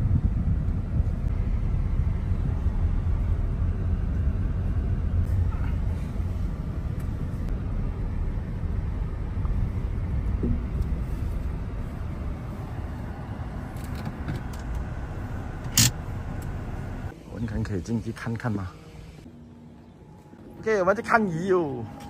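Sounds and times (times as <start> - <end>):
car driving rumble: 0.0 - 18.2.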